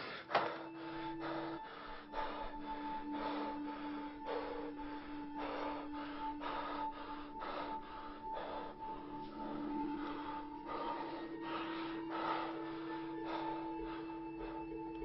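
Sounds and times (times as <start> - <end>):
droning music tone: 0.0 - 15.0
heavy breathing: 0.0 - 15.0.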